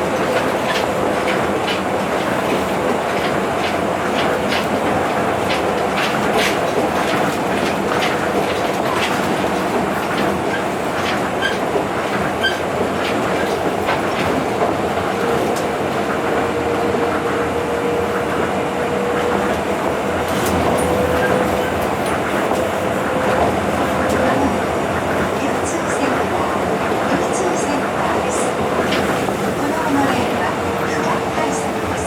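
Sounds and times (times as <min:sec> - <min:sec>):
train rumble on guideway: 0:00.0 - 0:32.0.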